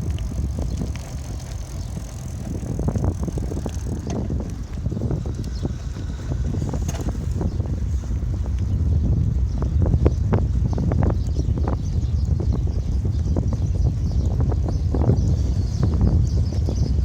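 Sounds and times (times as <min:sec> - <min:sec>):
bicycle rattles and knocks: 0:00.0 - 0:17.0
wind buffeting microphone: 0:00.0 - 0:17.0.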